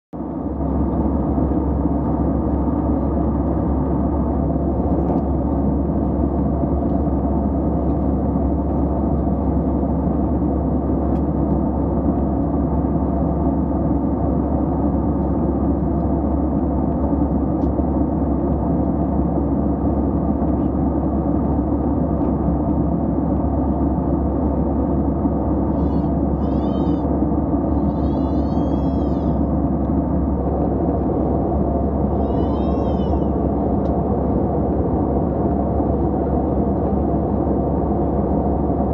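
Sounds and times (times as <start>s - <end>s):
airliner cabin rumble: 0.2s - 38.9s.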